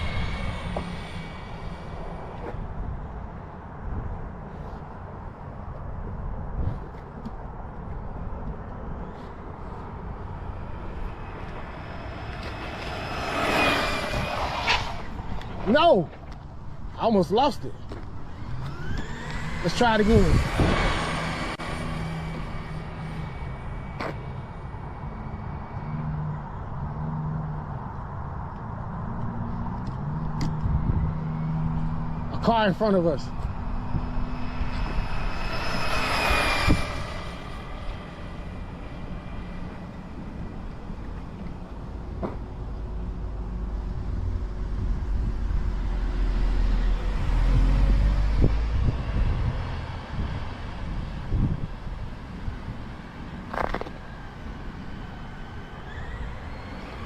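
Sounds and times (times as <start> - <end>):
outdoor noise: 0.0 - 57.0
vehicle engine hum: 0.0 - 57.0.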